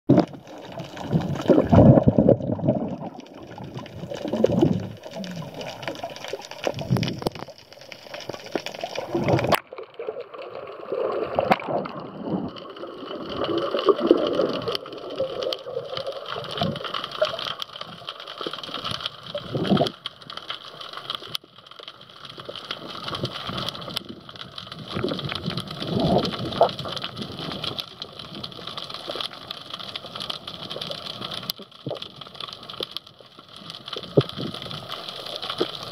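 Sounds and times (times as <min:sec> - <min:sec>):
underwater swishing and bubbling: 0:00.1 - 0:35.9.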